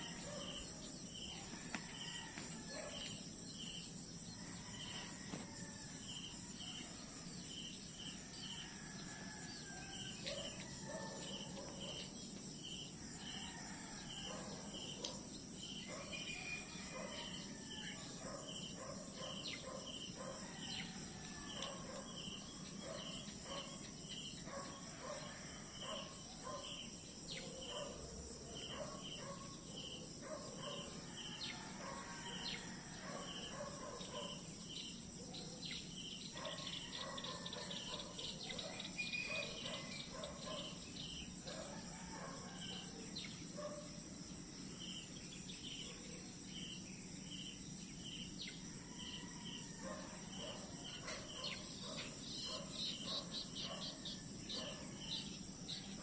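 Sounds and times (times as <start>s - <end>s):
crickets chirping: 0.0s - 56.0s
faint insect calls: 0.0s - 56.0s
insects droning: 0.0s - 56.0s.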